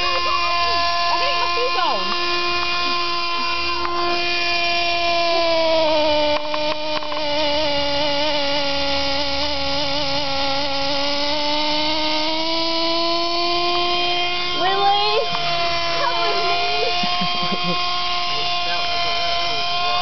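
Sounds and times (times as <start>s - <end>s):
model helicopter engine buzzing: 0.0s - 20.0s.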